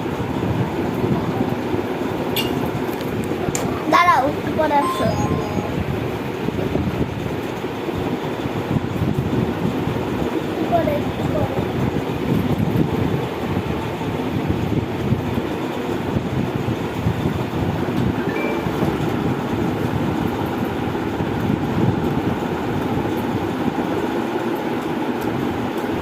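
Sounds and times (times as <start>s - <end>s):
electric fan running: 0.0s - 4.8s, 5.8s - 26.0s.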